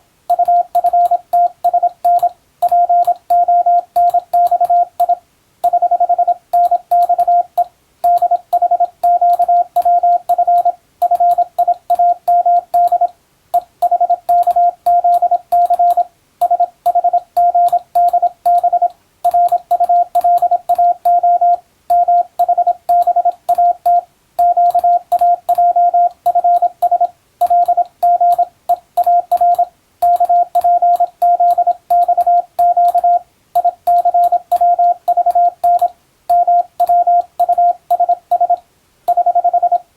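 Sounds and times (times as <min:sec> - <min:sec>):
morse code beeps: 0:00.3 - 0:39.8.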